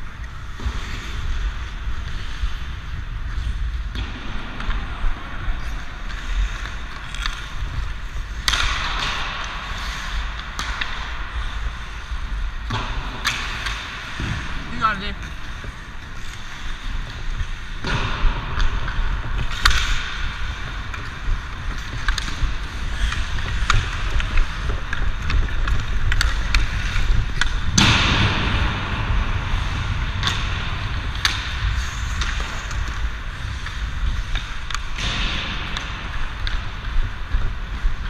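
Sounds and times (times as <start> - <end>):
hockey sticks clicking: 0.0 - 38.0
skate blades scraping ice: 0.0 - 38.0
wind rumble on microphone: 0.0 - 38.0.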